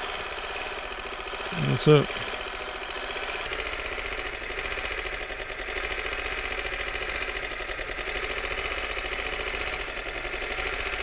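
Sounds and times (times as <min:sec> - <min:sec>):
film projector clattering: 0:00.0 - 0:11.0.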